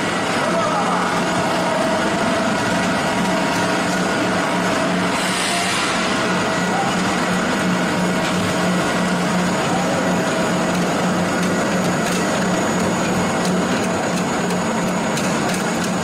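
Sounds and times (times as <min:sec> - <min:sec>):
pellet mill running: 0:00.0 - 0:16.0.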